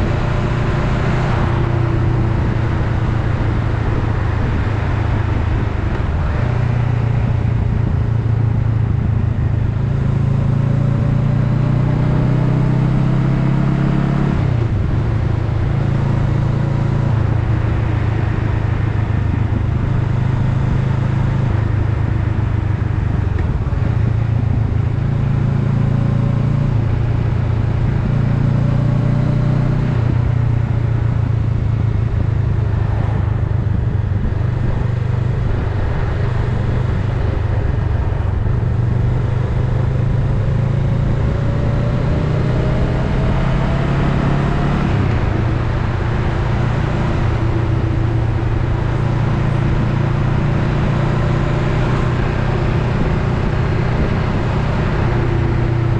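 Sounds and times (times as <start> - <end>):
wind and road noise: 0.0 - 55.9.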